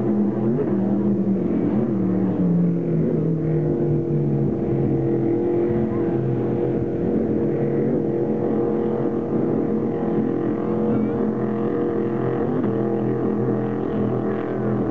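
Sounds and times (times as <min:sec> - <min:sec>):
powerboat engines passing: 0:00.0 - 0:14.9.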